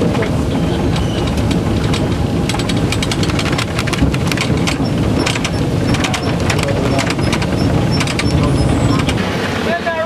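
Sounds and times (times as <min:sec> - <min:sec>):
clanks and rattles: 0:00.0 - 0:09.3
train rumbling: 0:00.0 - 0:10.0.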